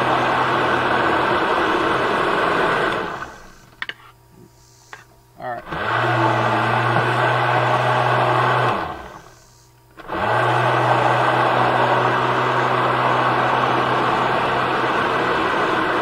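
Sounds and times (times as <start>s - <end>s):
blender running: 0.0s - 3.7s, 5.6s - 16.0s.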